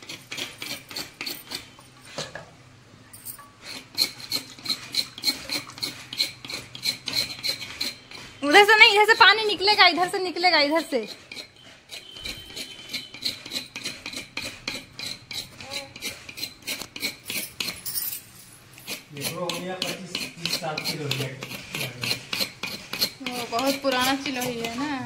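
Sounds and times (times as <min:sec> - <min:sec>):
knife scraping coconut shell: 0:00.0 - 0:01.9, 0:03.6 - 0:18.1, 0:18.7 - 0:25.0.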